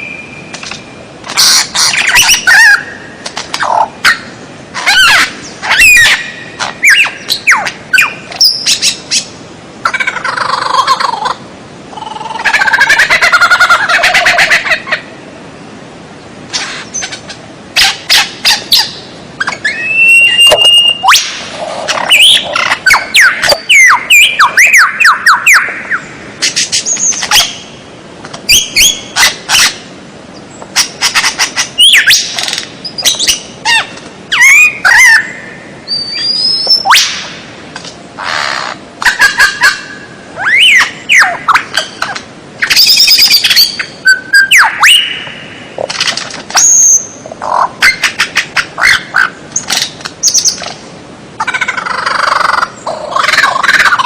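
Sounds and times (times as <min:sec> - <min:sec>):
songbird calls and trills: 0:00.0 - 0:15.2, 0:16.2 - 0:27.8, 0:28.5 - 0:37.4, 0:38.2 - 0:50.8.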